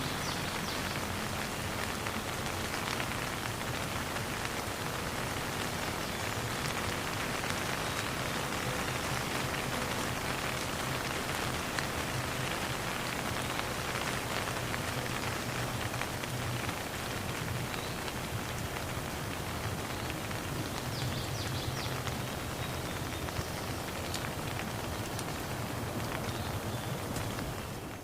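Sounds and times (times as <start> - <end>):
steady rain hiss: 0.0 - 28.0
raindrop taps: 0.3 - 28.0.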